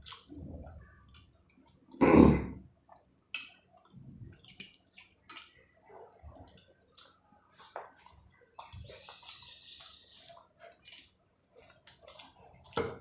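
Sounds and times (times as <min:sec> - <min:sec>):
food clicks and squishes: 0:00.0 - 0:02.0, 0:02.7 - 0:13.0
wet chewing: 0:00.0 - 0:02.0, 0:02.8 - 0:13.0.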